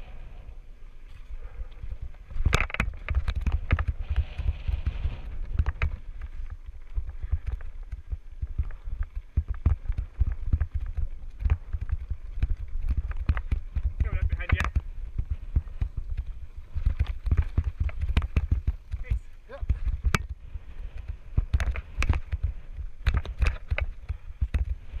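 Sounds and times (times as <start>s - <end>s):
wind and rolling tyres rumble: 0.0s - 25.0s
bike knocks and rattles: 1.9s - 25.0s.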